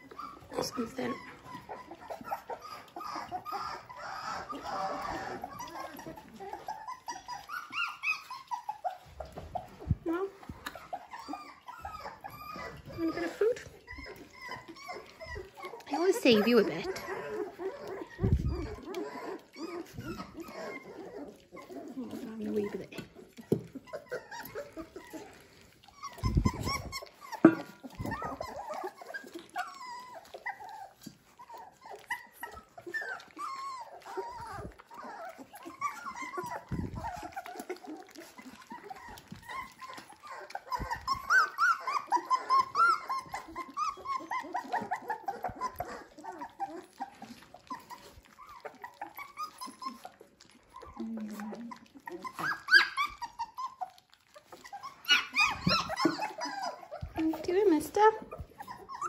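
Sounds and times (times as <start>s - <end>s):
puppies whining and squeaking: 0.0s - 59.0s.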